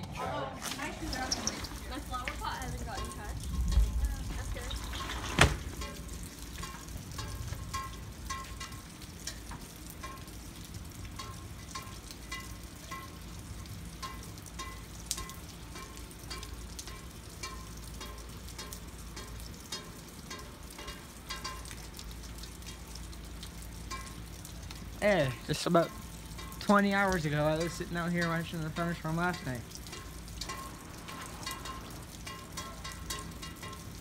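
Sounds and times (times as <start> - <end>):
rain falling: 0.0 - 34.0
water drops plinking: 0.6 - 34.0.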